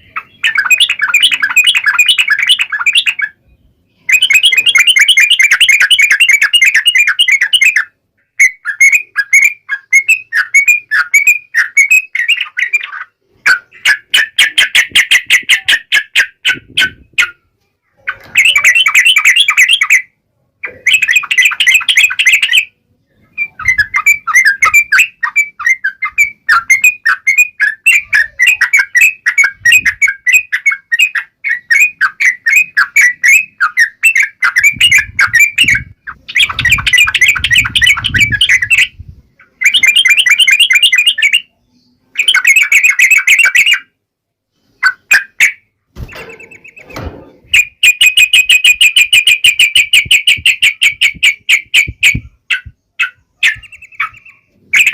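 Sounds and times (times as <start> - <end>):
bird chattering calls: 0.0 - 3.4, 4.0 - 17.4, 18.1 - 20.0, 23.3 - 41.5, 44.8 - 54.9.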